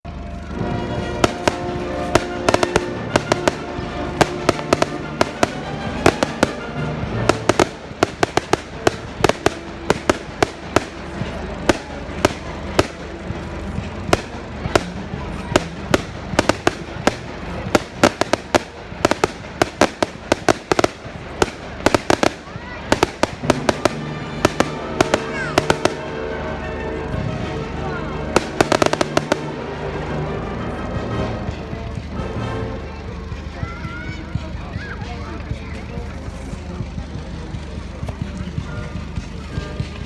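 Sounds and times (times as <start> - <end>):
fireworks banging and crackling: 0.1 - 32.4, 33.0 - 40.0
music playing: 0.1 - 40.0.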